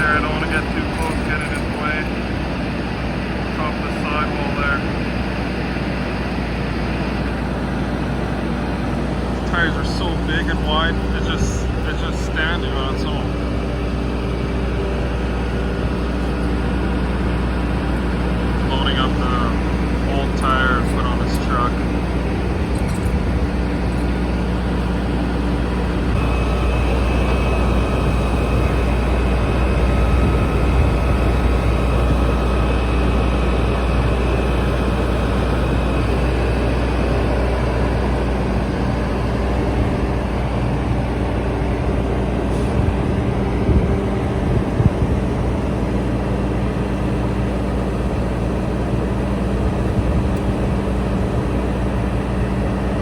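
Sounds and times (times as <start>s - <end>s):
faint whine: 0.0s - 53.0s
vehicle engine running: 0.0s - 53.0s.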